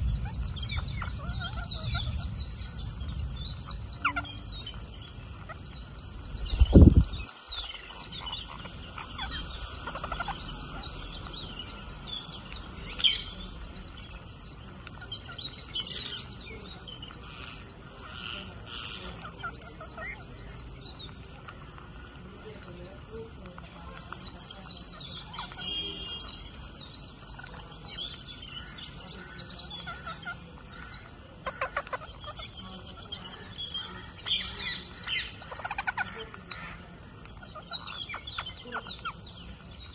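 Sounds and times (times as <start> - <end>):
parakeets chattering: 0.0 - 39.9.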